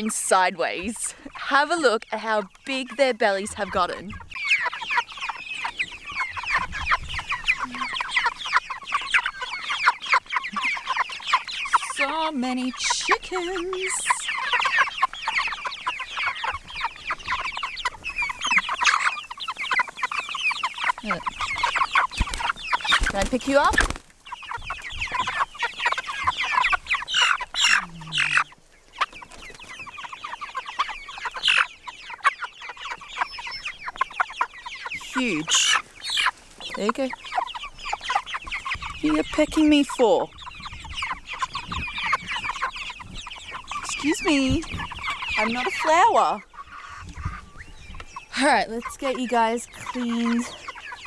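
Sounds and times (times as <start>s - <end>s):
chickens peeping: 0.0s - 51.0s.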